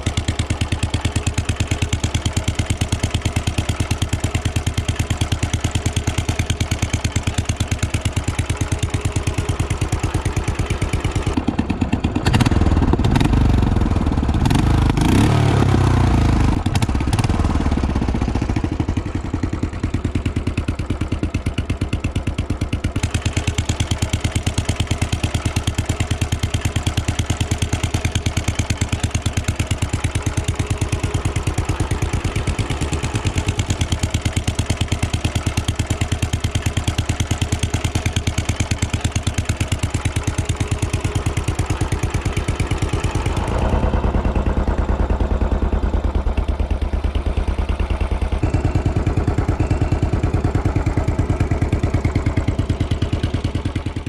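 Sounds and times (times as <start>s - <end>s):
motorcycle engine exhaust beat: 0.0s - 54.0s.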